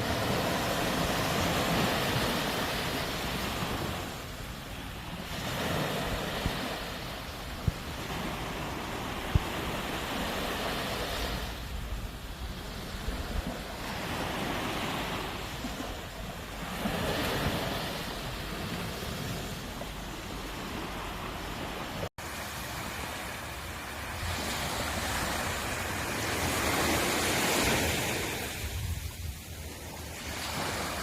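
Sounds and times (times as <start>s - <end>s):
sea waves breaking on shore: 0.0s - 31.0s.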